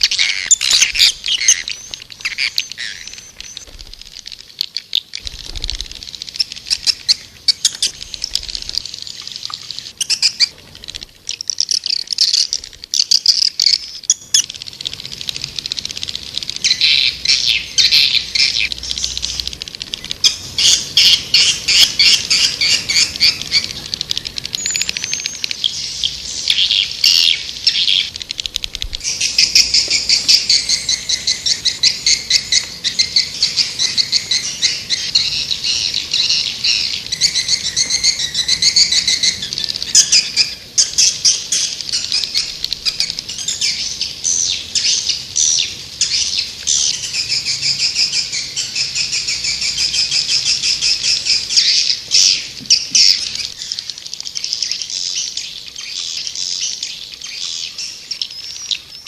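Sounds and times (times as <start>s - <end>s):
swiftlets twittering trills: 0.0s - 59.0s.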